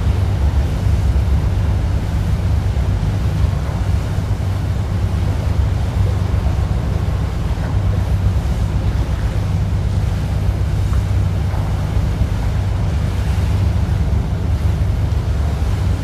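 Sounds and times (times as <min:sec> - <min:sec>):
water washing along hull: 0:00.0 - 0:16.0
wind buffeting microphone: 0:00.0 - 0:16.0.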